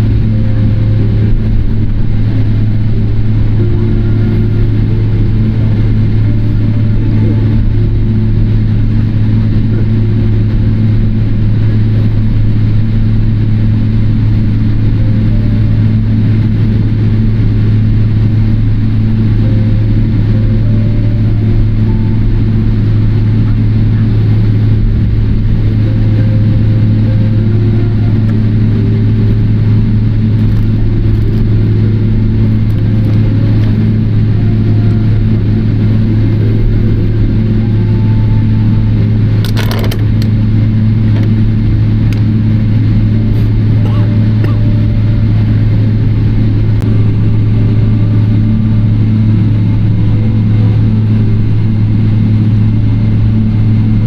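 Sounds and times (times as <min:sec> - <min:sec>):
airplane cabin hum: 0:00.0 - 0:54.0.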